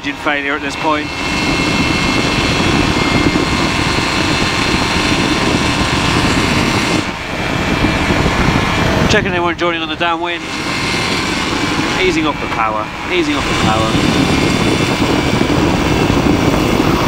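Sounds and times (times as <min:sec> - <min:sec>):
microlight engine and propeller: 0:00.0 - 0:17.0
rushing air: 0:00.0 - 0:17.0.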